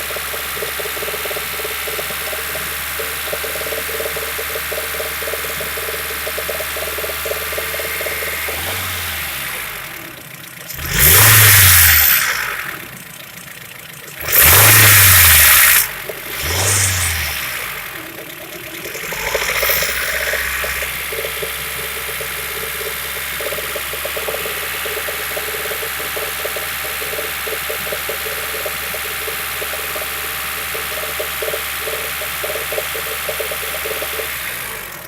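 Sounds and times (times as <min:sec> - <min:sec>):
engine running steadily: 0:00.0 - 0:35.0
light engine ticking: 0:00.0 - 0:35.0.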